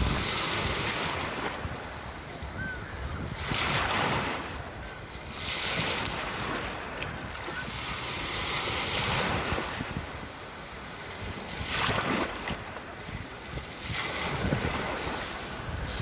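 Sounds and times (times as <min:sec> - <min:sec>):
sea waves washing onto shore: 0:00.0 - 0:16.0
wind rumble on microphone: 0:00.0 - 0:16.0.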